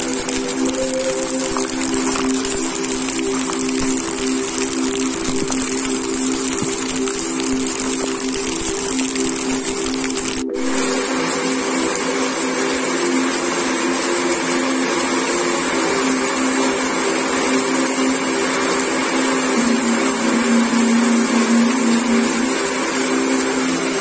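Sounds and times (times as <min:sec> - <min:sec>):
heavy rain on pavement: 0:00.0 - 0:24.0
low drone music: 0:00.0 - 0:24.0.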